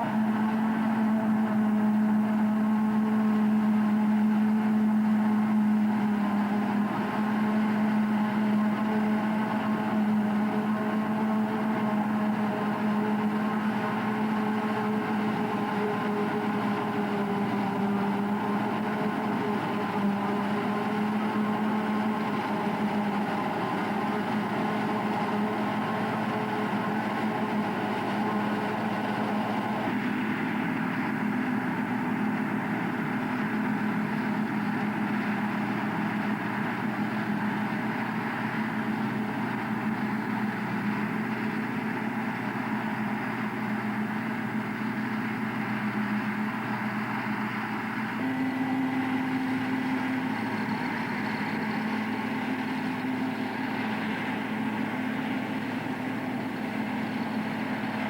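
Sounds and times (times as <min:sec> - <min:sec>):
harvester diesel engine humming: 0:00.0 - 0:58.0.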